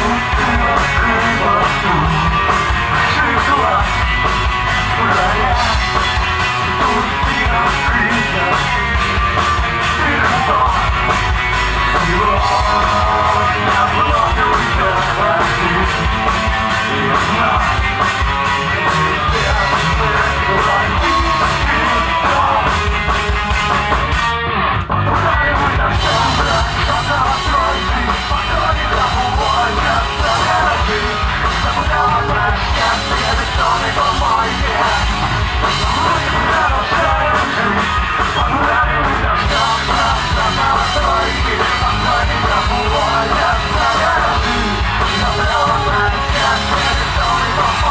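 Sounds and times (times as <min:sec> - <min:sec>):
rock band playing live: 0:00.0 - 0:47.9.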